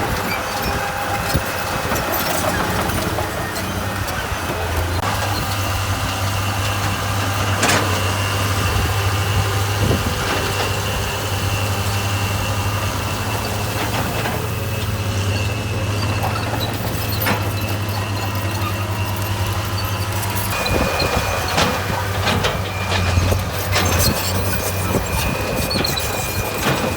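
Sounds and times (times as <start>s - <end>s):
diesel engine humming: 0.0s - 26.9s.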